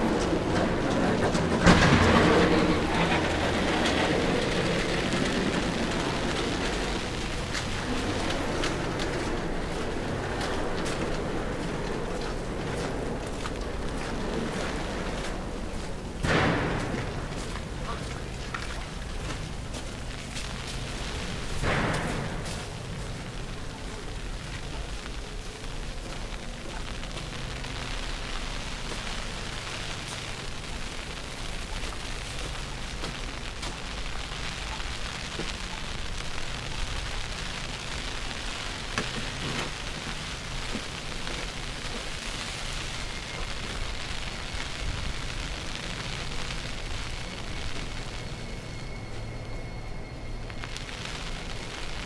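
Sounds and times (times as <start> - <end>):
constant low rumble: 0.0 - 52.0.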